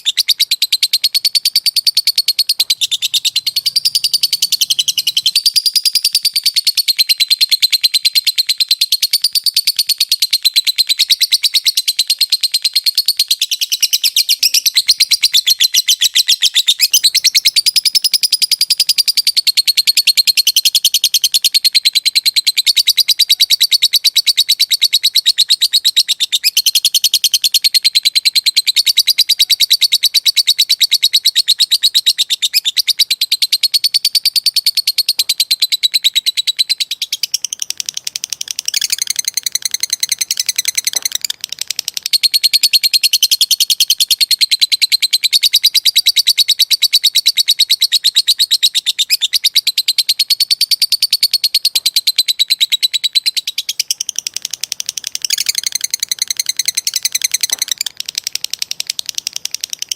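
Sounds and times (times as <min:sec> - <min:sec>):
lovebird chattering: 0:00.0 - 0:59.9.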